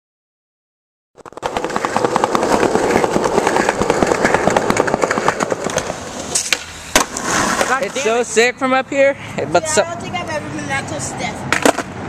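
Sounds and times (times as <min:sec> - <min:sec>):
skateboard wheels rolling on concrete: 0:01.2 - 0:12.0.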